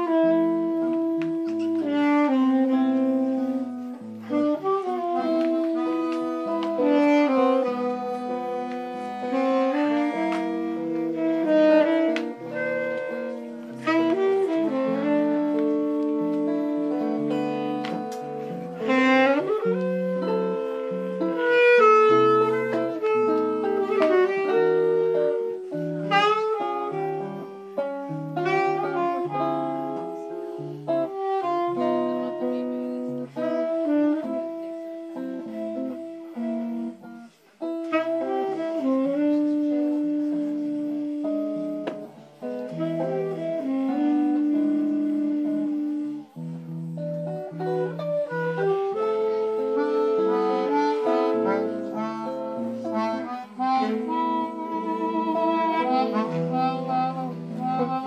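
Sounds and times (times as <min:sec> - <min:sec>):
electric guitar chords: 0:00.0 - 0:58.0
tenor saxophone melody: 0:00.0 - 0:58.0.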